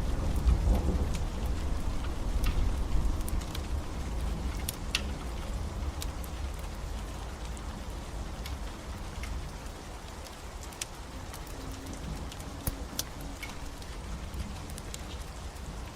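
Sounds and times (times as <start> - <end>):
steady rain: 0.0 - 15.9
wood fire crackling: 0.0 - 15.9.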